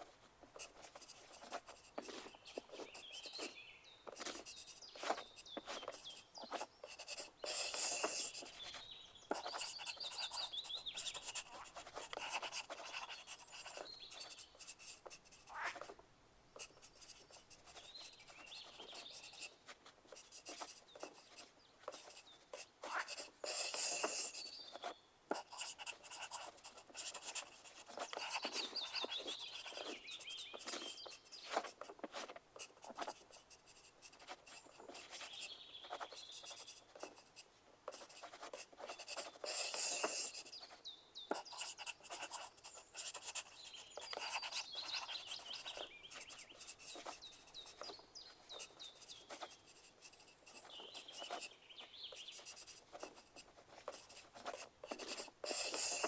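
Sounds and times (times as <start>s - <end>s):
pencil scratching on paper: 0.0s - 16.0s, 16.6s - 56.0s.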